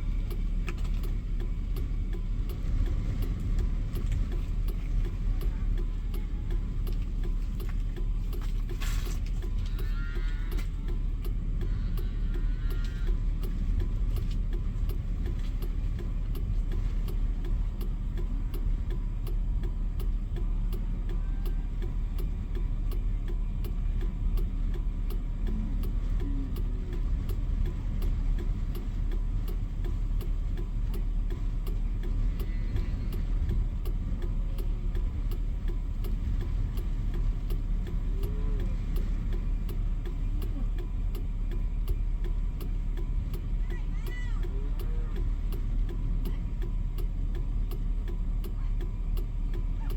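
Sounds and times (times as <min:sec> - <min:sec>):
light regular ticking: 0:00.0 - 0:49.9
vehicle engine running: 0:00.0 - 0:49.9.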